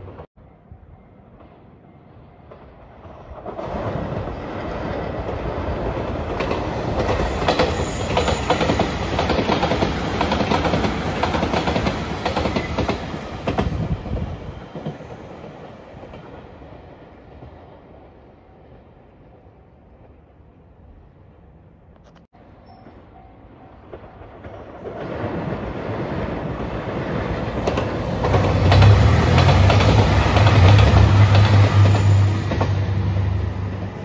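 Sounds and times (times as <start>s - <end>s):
electric train passing at speed: 0.0s - 34.0s.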